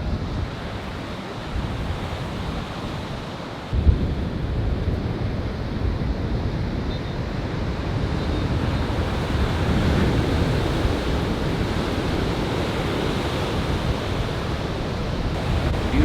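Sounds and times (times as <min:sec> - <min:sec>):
waves breaking on a beach: 0:00.0 - 0:16.0
wind rumbling on microphone: 0:00.0 - 0:16.0.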